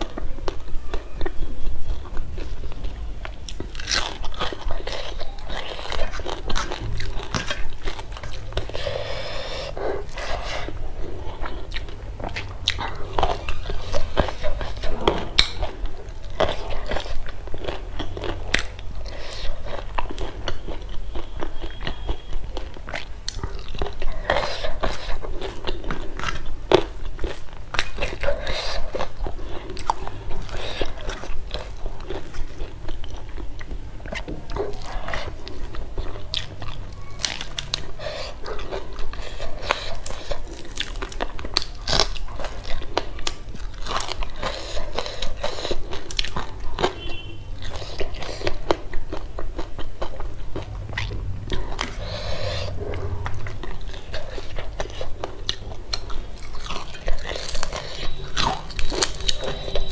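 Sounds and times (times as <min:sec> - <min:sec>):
wet chewing with crunches: 0:00.0 - 0:59.9.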